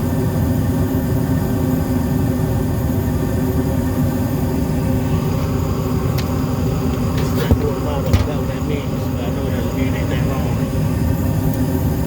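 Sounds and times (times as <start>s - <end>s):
gas furnace rumble and hum: 0.0s - 12.0s.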